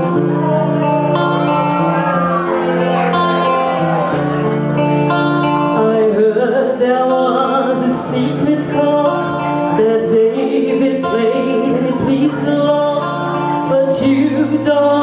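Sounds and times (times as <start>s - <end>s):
woman singing into a microphone: 0.0s - 3.6s, 5.1s - 15.0s
guitar accompaniment: 0.0s - 15.0s.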